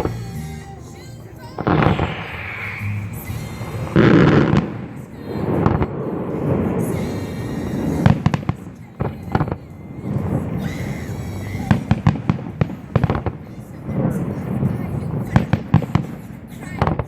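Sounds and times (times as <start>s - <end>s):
fireworks shells bursting: 0.0s - 17.0s
sharp firework cracks and bangs: 0.0s - 17.0s
rumble of explosions: 1.4s - 17.0s.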